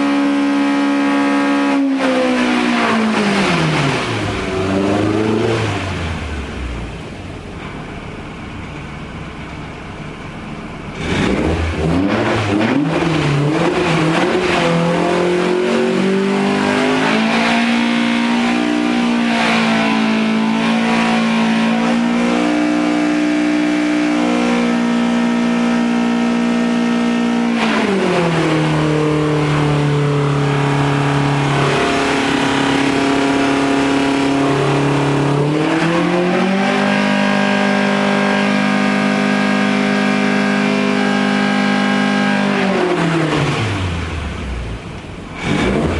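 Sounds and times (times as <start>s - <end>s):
race engine revving: 0.0s - 7.3s, 10.9s - 45.9s.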